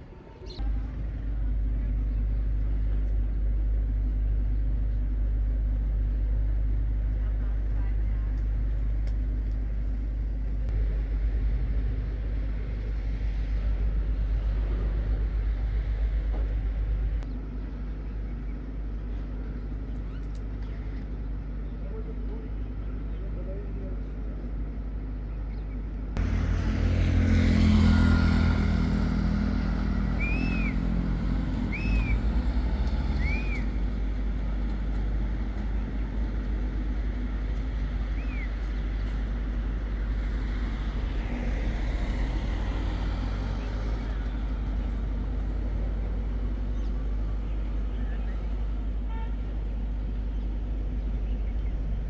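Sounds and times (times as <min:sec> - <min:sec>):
vehicle passing with low rumble: 0:00.0 - 0:18.3, 0:26.2 - 0:52.0.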